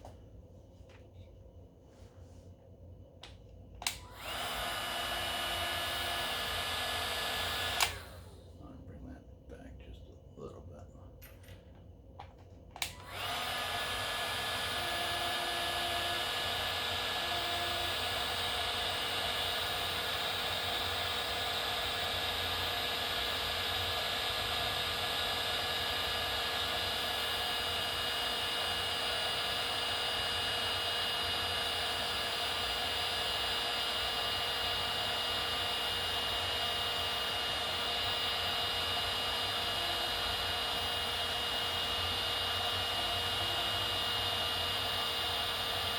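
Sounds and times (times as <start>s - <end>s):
heat gun fan blowing: 3.2s - 9.7s, 12.7s - 45.9s
heat gun high whine: 3.8s - 8.4s, 12.8s - 45.9s.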